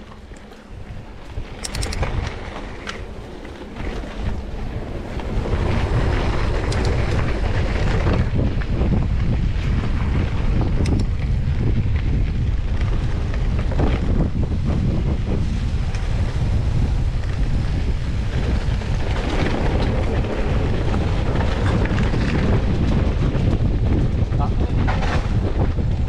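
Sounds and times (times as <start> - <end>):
bike knocks and rattles: 0.0 - 26.0
wind buffeting microphone: 0.0 - 26.0.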